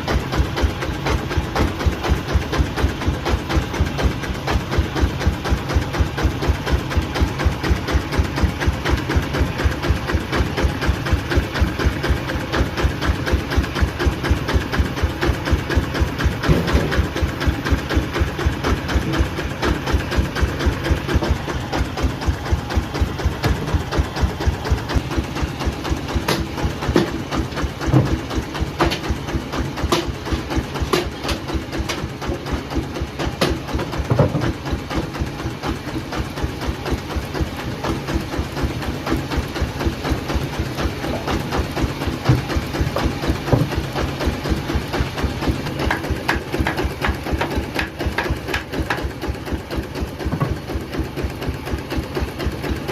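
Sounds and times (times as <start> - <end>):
heavy engine running: 0.0 - 52.9.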